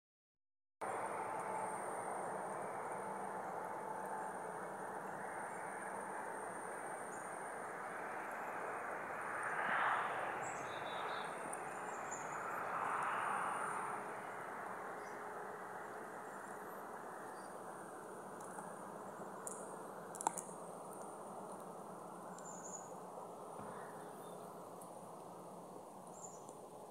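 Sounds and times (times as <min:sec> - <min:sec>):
low background rush: 0:00.8 - 0:26.9
insects trilling: 0:01.0 - 0:26.8.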